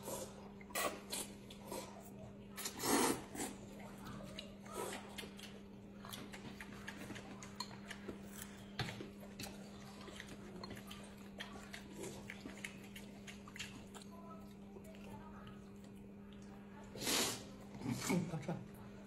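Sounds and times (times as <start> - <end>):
people chewing: 0.0 - 19.0.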